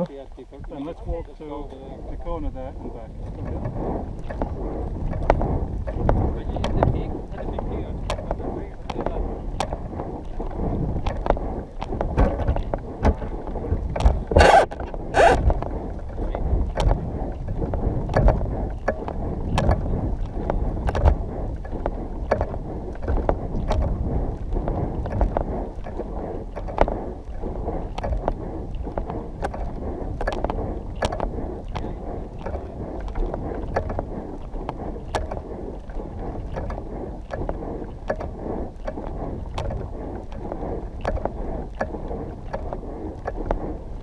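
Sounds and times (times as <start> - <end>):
steady rushing noise: 0.0 - 44.0
loud scrapes: 2.3 - 44.0.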